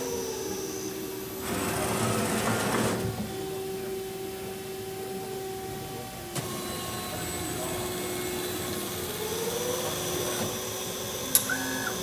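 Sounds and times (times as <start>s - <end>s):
band saw machine hum: 0.0s - 12.0s.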